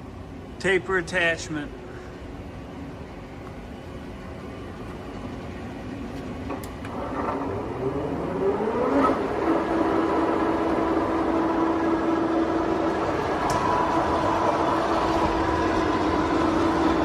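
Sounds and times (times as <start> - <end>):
lathe motor whining and humming: 2.2 - 17.0.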